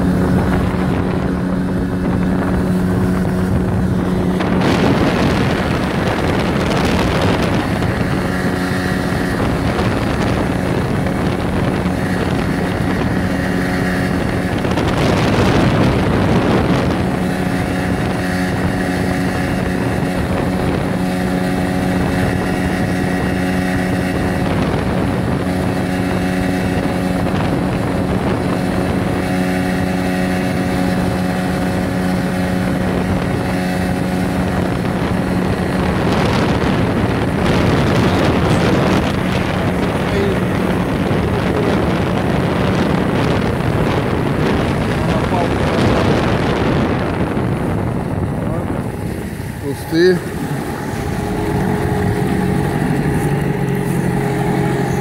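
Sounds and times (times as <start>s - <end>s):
outboard motor running: 0.0s - 55.0s
wind and water rushing: 0.0s - 55.0s.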